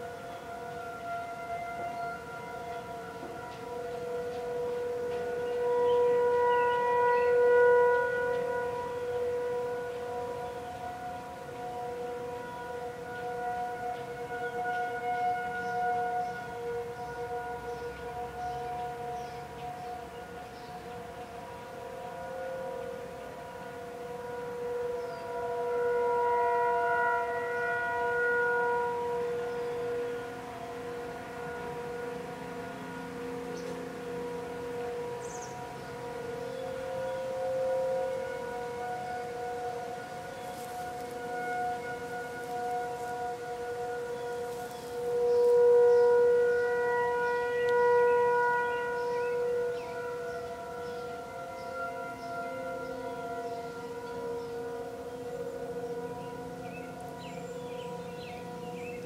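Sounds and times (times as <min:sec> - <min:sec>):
sirens sounding a steady tone: 0:00.0 - 0:59.0.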